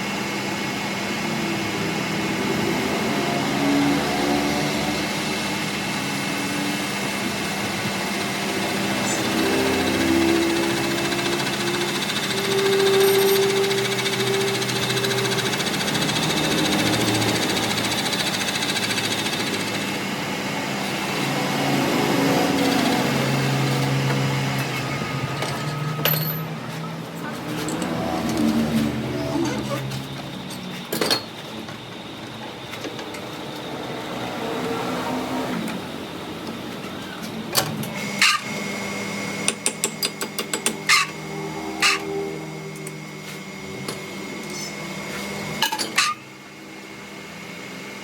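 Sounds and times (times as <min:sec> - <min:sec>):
workshop machine humming: 0:00.0 - 0:48.0.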